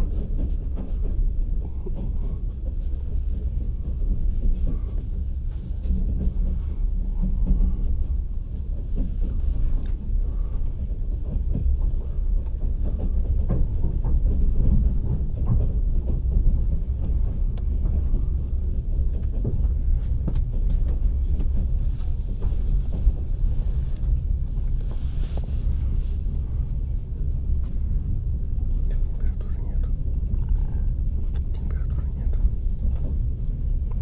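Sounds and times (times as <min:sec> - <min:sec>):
train wheels rumbling: 0:00.0 - 0:34.0
wheels knocking on rails: 0:00.0 - 0:34.0.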